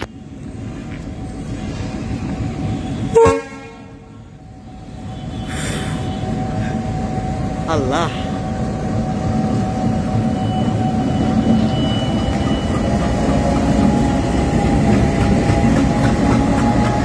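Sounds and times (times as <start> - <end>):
diesel locomotive rumbling past: 0.0 - 17.0.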